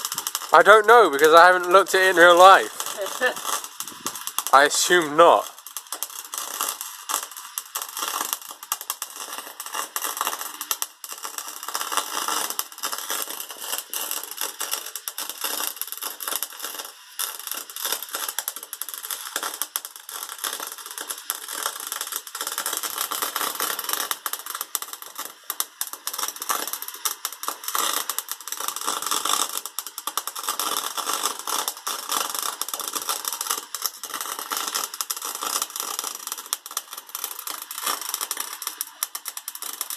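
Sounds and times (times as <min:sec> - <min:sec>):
arc welding crackle and sizzle: 0:00.0 - 0:39.9.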